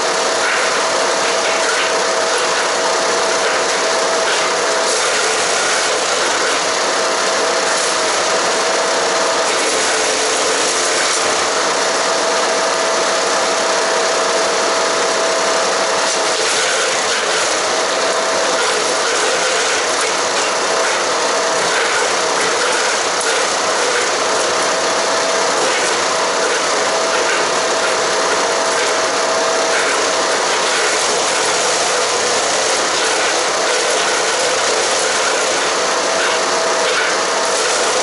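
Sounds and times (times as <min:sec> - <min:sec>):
engine running: 0:00.0 - 0:38.0
wood chipper shredding branches: 0:00.0 - 0:38.0.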